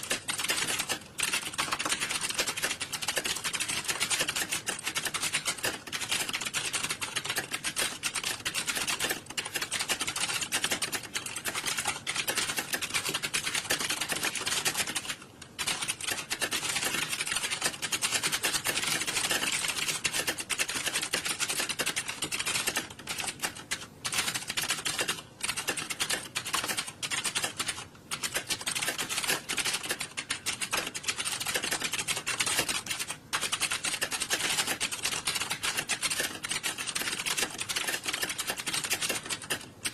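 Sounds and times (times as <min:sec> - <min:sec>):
keyboards typing clatter: 0:00.0 - 0:39.9.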